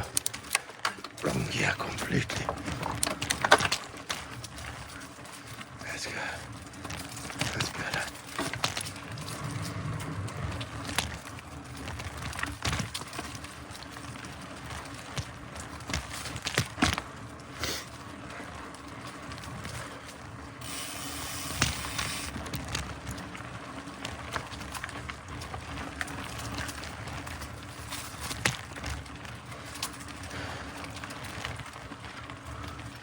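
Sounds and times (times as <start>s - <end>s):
bike knocking and rattling: 0.0s - 5.8s, 6.4s - 33.0s
bike tyres rolling on dirt: 0.0s - 33.0s.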